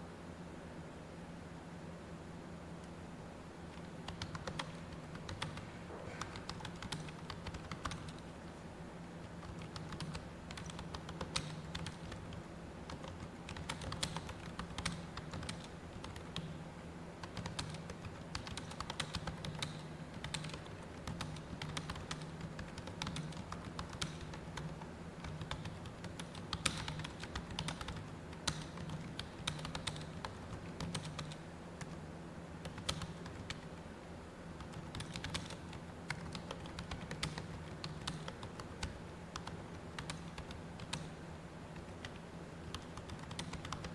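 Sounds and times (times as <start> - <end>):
steady low hum: 0.0 - 43.9
fast typing on keyboard: 3.7 - 8.2, 9.2 - 16.6, 17.2 - 32.0, 32.6 - 33.8, 34.6 - 41.2, 41.8 - 43.9.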